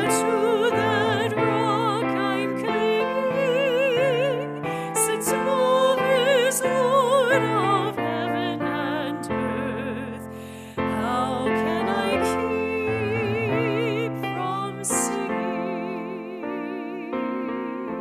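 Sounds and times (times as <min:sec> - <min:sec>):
piano chords: 0:00.0 - 0:18.0
woman singing with vibrato: 0:00.0 - 0:18.0.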